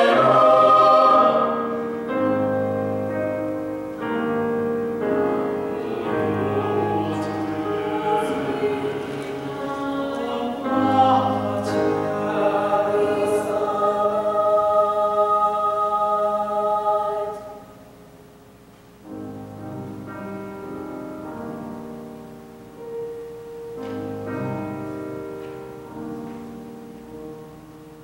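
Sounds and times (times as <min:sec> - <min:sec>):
choir singing sustained chords: 0:00.0 - 0:28.0.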